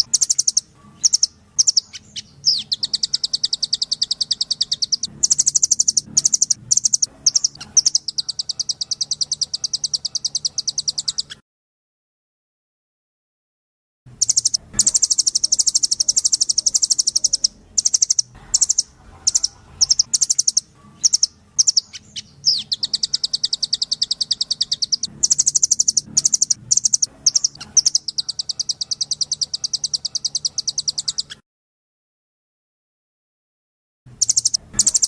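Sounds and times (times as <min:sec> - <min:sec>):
bird high trills: 0:00.0 - 0:11.4, 0:14.2 - 0:31.4, 0:34.2 - 0:35.0.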